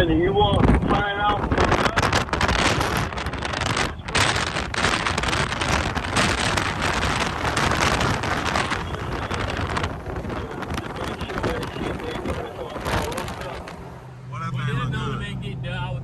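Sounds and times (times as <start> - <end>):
vehicle noise: 0.0 - 16.0
wind rushing over microphone: 0.0 - 16.0.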